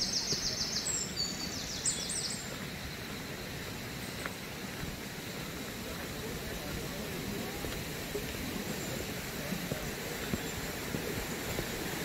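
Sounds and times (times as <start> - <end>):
recording hiss: 0.0 - 12.0
footsteps on stony dirt trail: 0.1 - 12.0.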